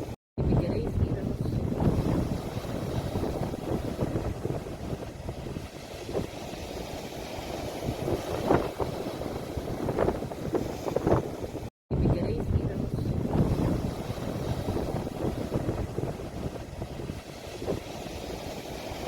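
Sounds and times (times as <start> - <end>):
wind rumbling on microphone: 0.0 - 19.0
sea waves splashing on shore: 0.9 - 11.7, 12.6 - 19.0.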